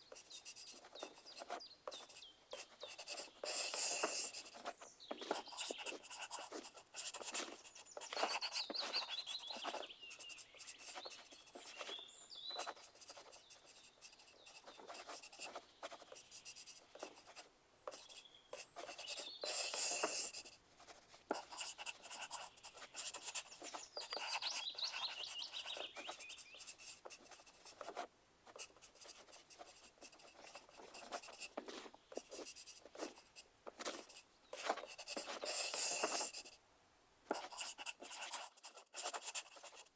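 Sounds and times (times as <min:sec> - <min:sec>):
pencils scratching on paper: 0:00.0 - 0:36.6, 0:37.3 - 0:39.9.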